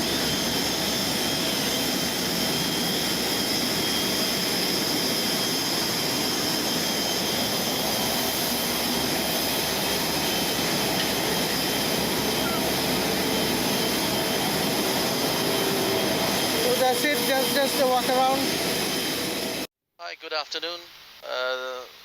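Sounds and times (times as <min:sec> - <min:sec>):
jet turbine running: 0:00.0 - 0:19.7.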